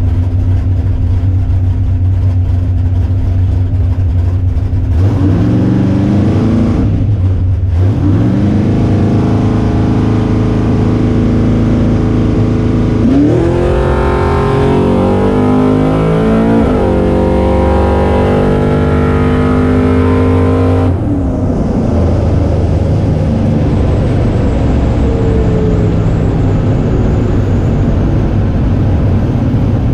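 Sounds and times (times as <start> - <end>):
car engine at full throttle: 0.0 - 29.9
road and wind noise: 0.0 - 29.9.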